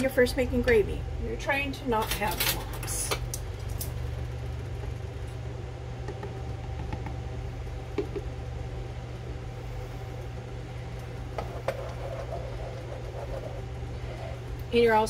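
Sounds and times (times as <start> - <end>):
air fryer fan humming: 0.0 - 15.0.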